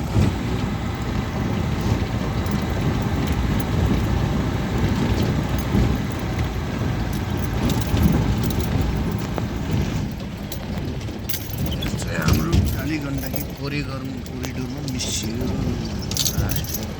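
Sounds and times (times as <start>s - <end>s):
vehicle engine and road rumble: 0.0s - 16.9s
light rattles and clicks: 0.1s - 16.9s.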